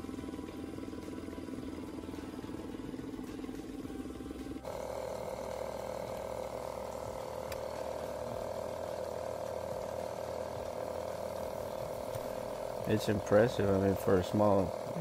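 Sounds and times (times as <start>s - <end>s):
outboard engine running: 0.0s - 15.0s.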